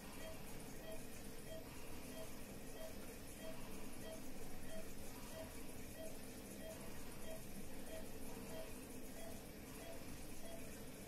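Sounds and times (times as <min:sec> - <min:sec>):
ventilator machine noise: 0:00.0 - 0:11.0.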